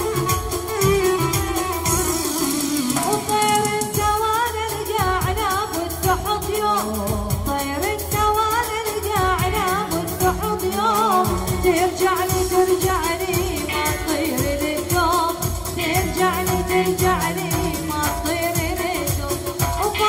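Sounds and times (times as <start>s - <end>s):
band accompaniment with drum beat: 0.0s - 20.0s
woman singing pop melody: 0.0s - 20.0s.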